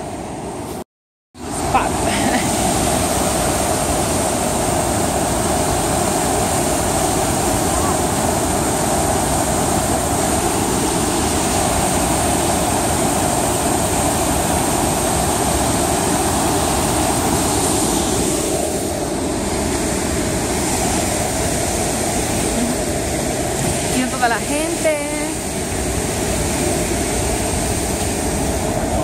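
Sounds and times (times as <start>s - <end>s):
waterfall rushing: 1.4s - 29.0s.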